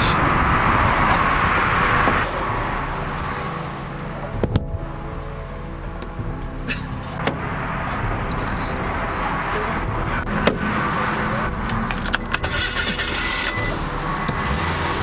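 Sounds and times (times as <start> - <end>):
car engine running: 0.0 - 15.0
metallic jingling: 0.0 - 15.0.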